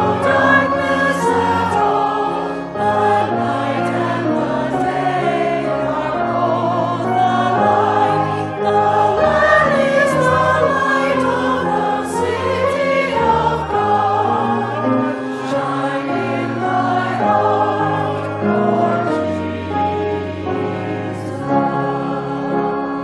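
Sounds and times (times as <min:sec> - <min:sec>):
choir singing a hymn: 0:00.0 - 0:23.0
sustained accompaniment chords: 0:00.0 - 0:23.0.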